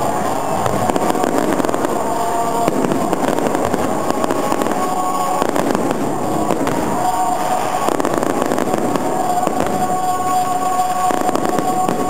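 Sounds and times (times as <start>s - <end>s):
firework bursts: 0.0s - 12.0s
fireworks crackling: 0.0s - 12.0s.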